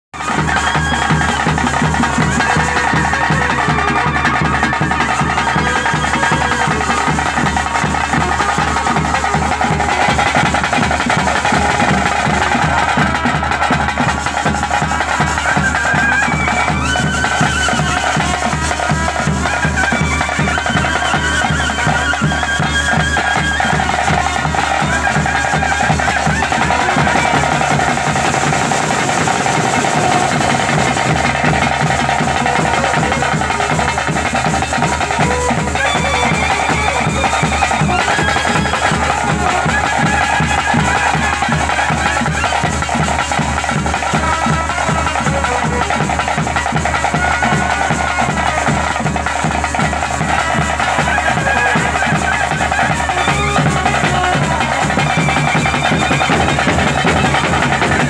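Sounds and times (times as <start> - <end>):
fast steady drumming: 0.1 - 58.0
double-reed pipe melody: 0.2 - 58.0.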